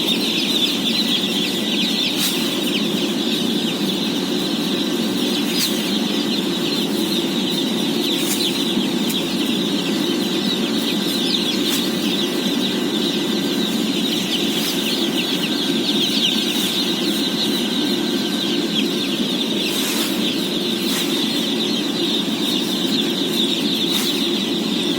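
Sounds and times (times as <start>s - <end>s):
chicks peeping: 0.0s - 24.9s.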